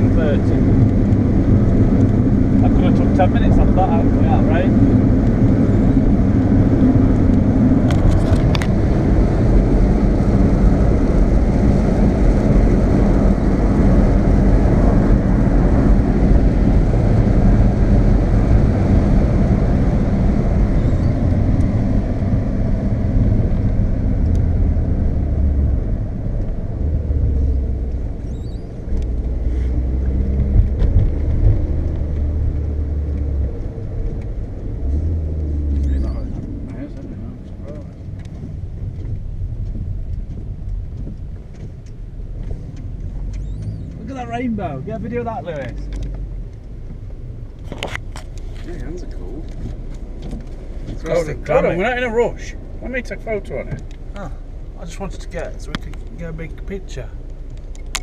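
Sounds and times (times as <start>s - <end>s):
car engine: 0.0s - 58.0s
road noise: 0.0s - 58.0s.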